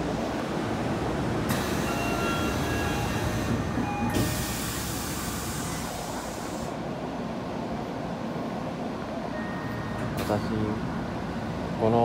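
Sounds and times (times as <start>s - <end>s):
subway train rail noise: 0.0s - 12.0s.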